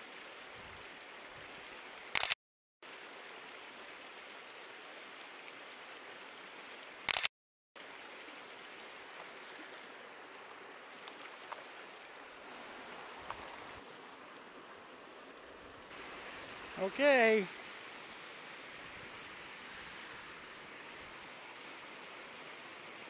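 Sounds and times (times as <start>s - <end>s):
creek water running over rocks: 0.0s - 2.2s, 2.8s - 7.2s, 7.8s - 23.0s.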